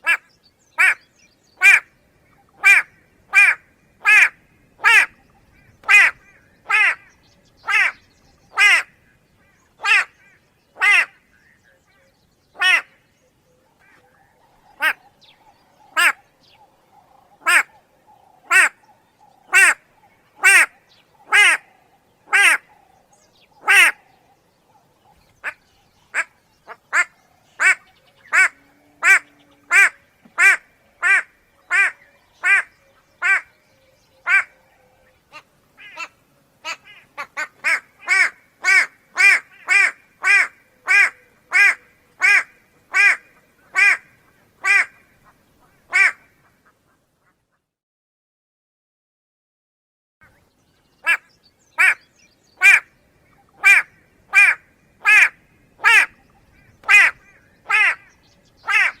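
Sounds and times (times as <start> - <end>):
bird calling: 0.0 - 47.4, 50.2 - 59.0.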